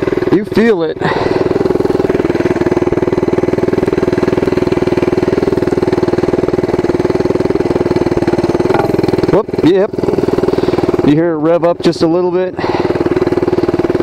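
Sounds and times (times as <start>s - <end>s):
small motorbike engine idling: 0.0s - 14.0s.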